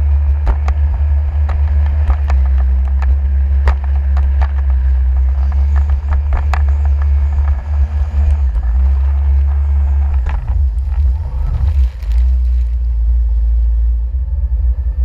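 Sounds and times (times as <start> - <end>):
jet ski engine: 0.0 - 15.0
wind rumble on microphone: 0.0 - 15.0.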